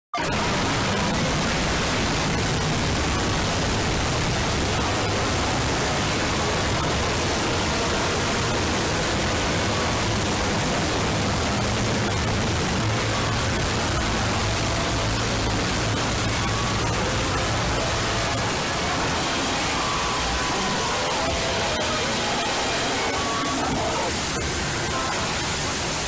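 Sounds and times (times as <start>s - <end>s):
static hiss: 0.2s - 26.0s.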